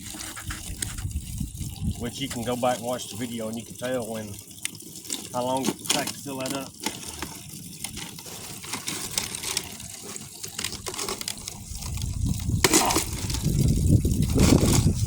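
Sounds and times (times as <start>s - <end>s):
water running into a container: 0.0s - 15.0s.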